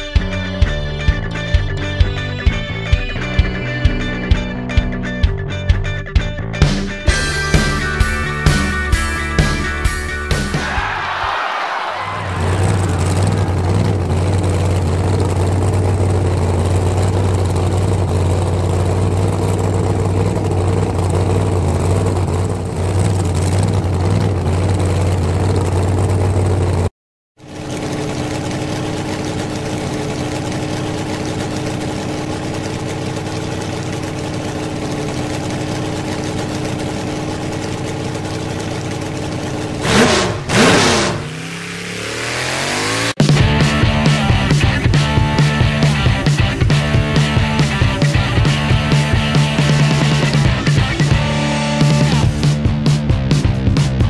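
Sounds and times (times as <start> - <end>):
engine revs: 0.0 - 54.0
large vehicle engine idling: 0.0 - 54.0.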